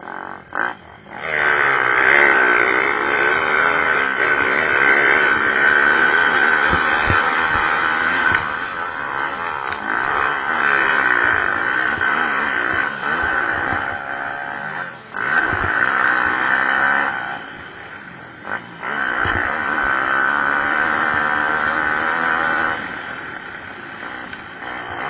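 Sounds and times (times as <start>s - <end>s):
motorbike engines revving: 0.0s - 25.0s.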